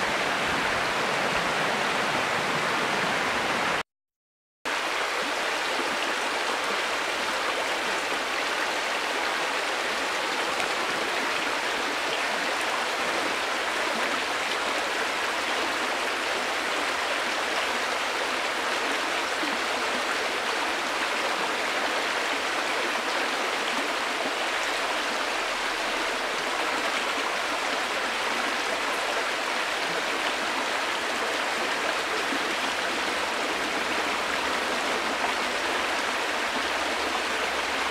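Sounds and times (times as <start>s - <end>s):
river water flowing: 0.0s - 3.8s, 4.7s - 37.9s.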